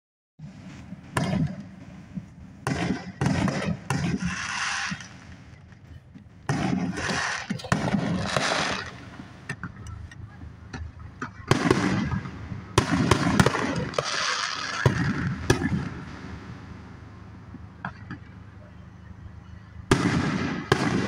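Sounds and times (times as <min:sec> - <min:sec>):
fireworks bursting: 0:00.4 - 0:18.6, 0:19.3 - 0:21.0.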